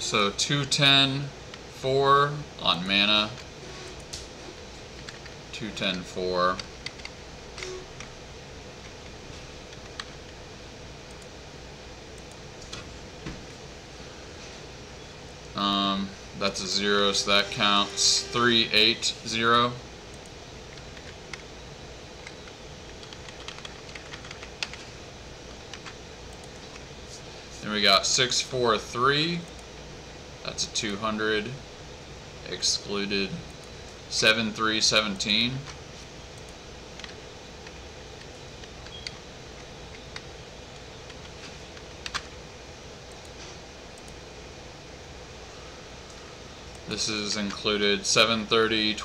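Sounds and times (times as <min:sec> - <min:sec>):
low room hum: 0:00.0 - 0:49.0.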